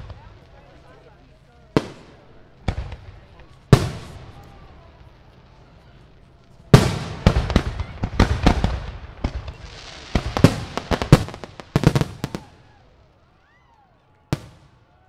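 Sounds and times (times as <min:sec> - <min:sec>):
fireworks bursting: 0:00.0 - 0:13.2, 0:14.3 - 0:14.9.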